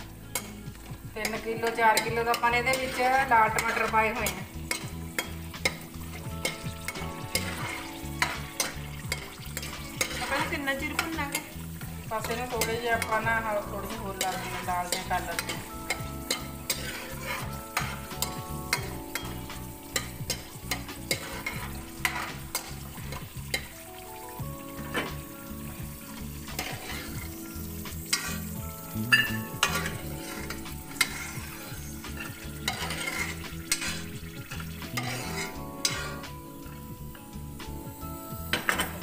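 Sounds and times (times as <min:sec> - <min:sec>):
metal spoon scraping and clinking pan: 0:00.0 - 0:23.8, 0:24.8 - 0:36.7
food sizzling in hot oil: 0:00.0 - 0:39.0.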